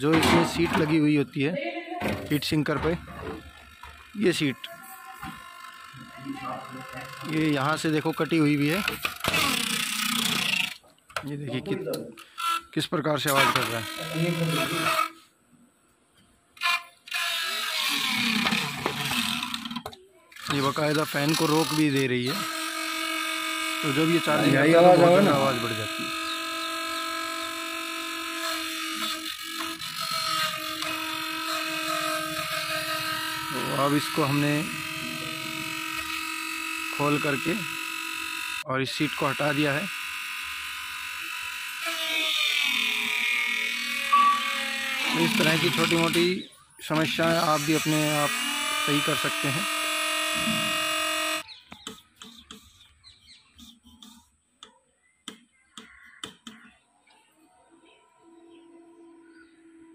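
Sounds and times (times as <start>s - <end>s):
inverter buzzing: 0.0s - 15.2s, 16.6s - 52.7s.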